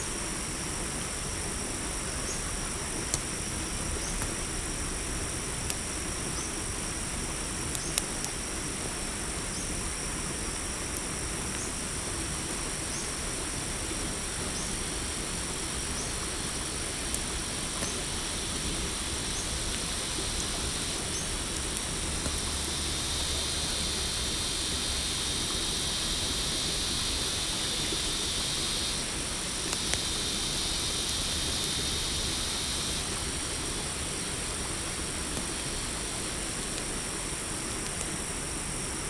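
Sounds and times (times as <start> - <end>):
campfire hissing and crackling: 0.0 - 39.0
crickets trilling: 0.0 - 39.0.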